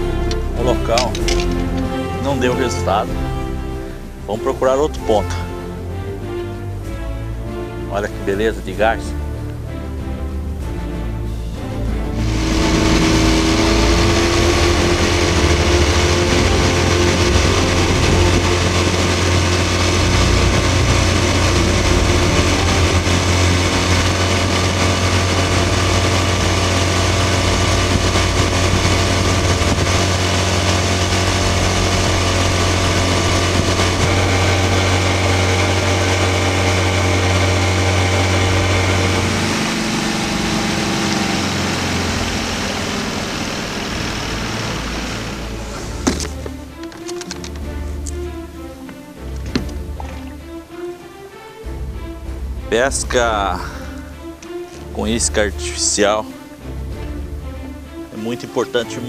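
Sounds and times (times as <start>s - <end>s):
outboard motor running: 0.0s - 51.0s, 51.6s - 59.0s.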